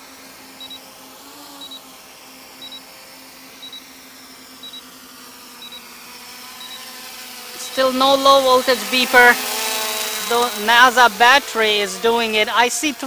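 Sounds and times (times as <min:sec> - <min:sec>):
quadcopter propellers humming: 0:00.0 - 0:13.0.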